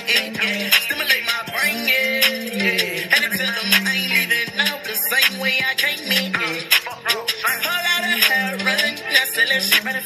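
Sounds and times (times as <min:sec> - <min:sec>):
hip-hop beat: 0:00.0 - 0:10.0
man rapping: 0:00.0 - 0:10.0.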